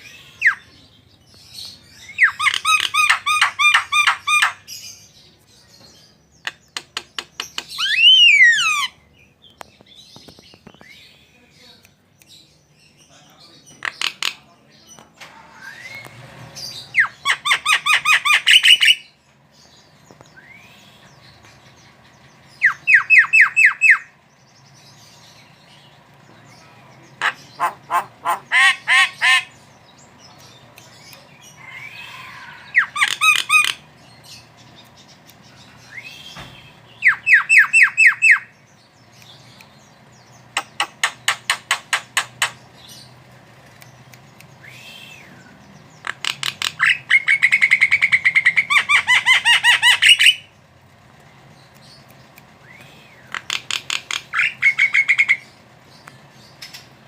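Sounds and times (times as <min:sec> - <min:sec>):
bird harsh chattering calls: 0:00.0 - 0:05.3, 0:06.2 - 0:11.4, 0:13.6 - 0:15.0, 0:15.6 - 0:19.2, 0:20.1 - 0:50.6, 0:51.4 - 0:57.0.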